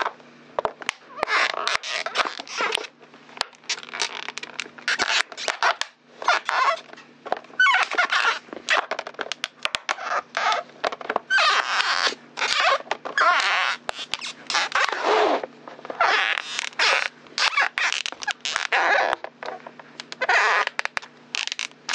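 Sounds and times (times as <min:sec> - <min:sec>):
plastic bottle crushed crackling: 0:00.8 - 0:06.8, 0:07.5 - 0:15.0, 0:15.8 - 0:21.9.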